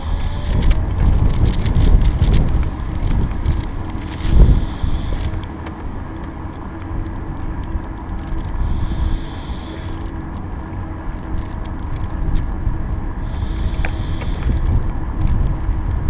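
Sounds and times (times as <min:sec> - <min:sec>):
rumble of travel on tarmac: 0:00.0 - 0:16.0
wind buffeting camera microphone: 0:00.0 - 0:16.0.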